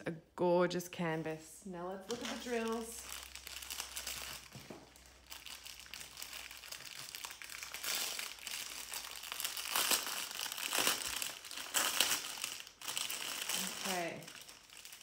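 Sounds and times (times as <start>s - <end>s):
plastic bag crinkling: 2.1s - 15.0s.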